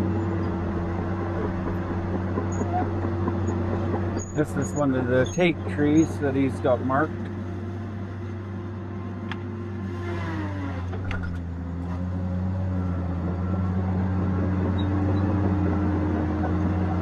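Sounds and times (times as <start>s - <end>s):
diesel engine and hydraulics running: 0.0s - 17.0s.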